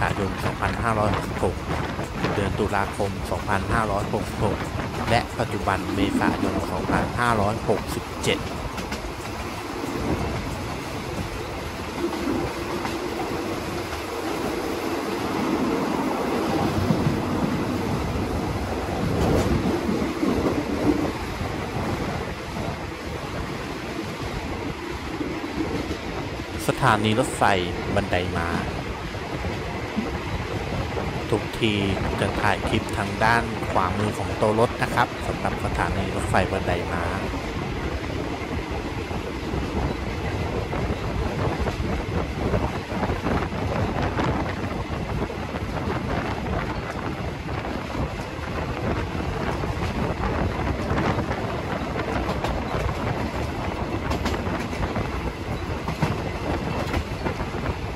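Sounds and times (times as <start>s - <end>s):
train rushing rumble: 0.0s - 57.9s
wind buffeting microphone: 0.0s - 57.9s.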